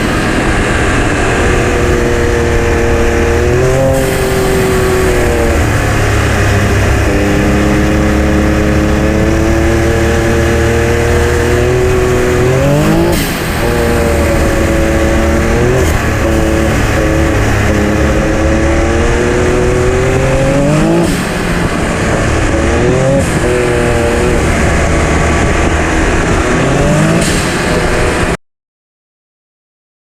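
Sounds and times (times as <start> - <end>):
engine revving: 0.0 - 28.4.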